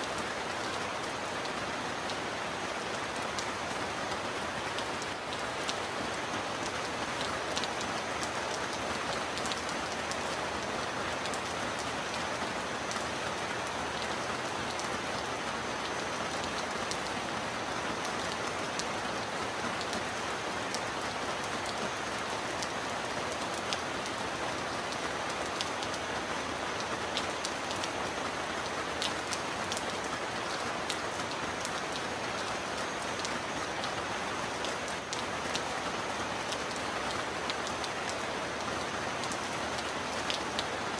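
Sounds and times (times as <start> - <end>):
raindrops ticking on surface: 0.0 - 40.9.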